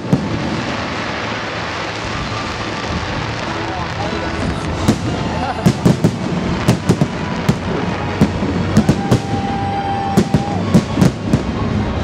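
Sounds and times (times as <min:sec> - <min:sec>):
fireworks bursting with sharp bangs: 0:00.0 - 0:12.0
steady noisy background: 0:00.0 - 0:12.0.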